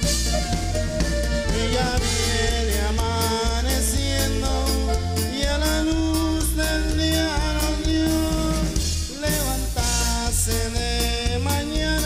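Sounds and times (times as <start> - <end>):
band music: 0.0 - 12.0
bass and drums beat: 0.0 - 12.0
held melody line: 0.0 - 12.0.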